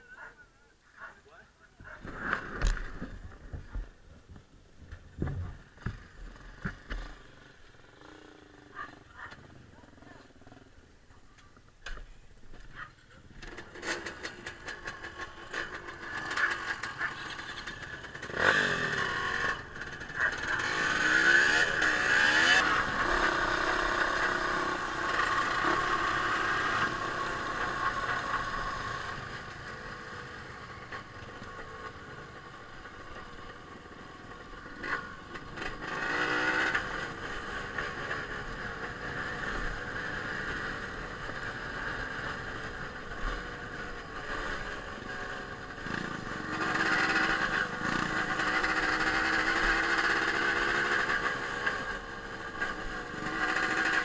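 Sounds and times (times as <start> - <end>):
motorcycle engines revving: 4.9 - 11.7, 12.5 - 54.0.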